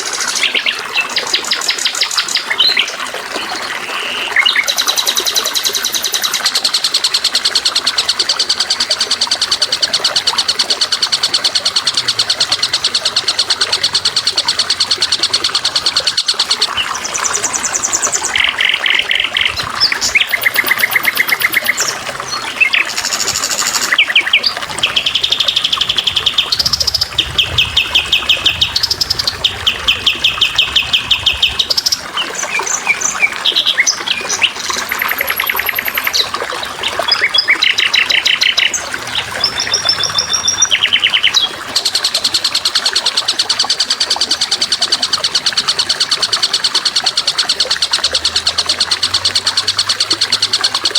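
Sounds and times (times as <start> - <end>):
songbird trilling: 0.0 - 3.0, 3.9 - 50.9.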